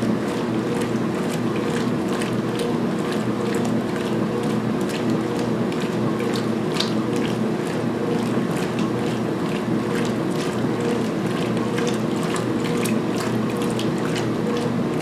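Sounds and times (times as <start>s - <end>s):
washing machine motor hum: 0.0s - 15.0s
water sloshing in washer tub: 0.0s - 15.0s.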